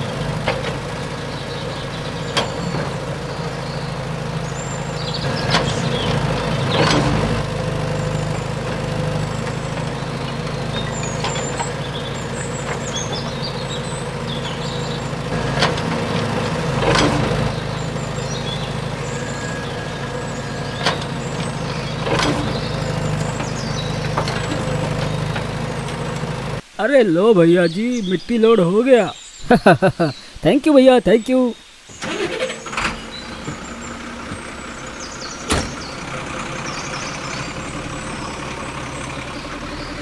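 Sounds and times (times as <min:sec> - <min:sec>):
small digger motor droning: 0:00.0 - 0:26.6, 0:31.9 - 0:40.0.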